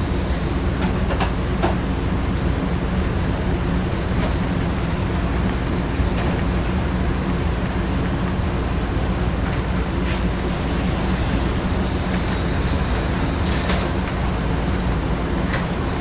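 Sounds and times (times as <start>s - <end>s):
small wheels rattling on track: 3.1s - 16.0s.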